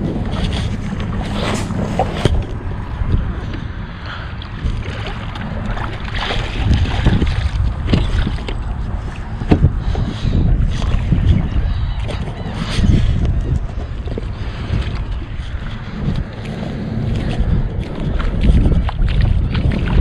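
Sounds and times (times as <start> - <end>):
water sounds: 0.0 - 20.0
wind rumbling on microphone: 0.0 - 20.0.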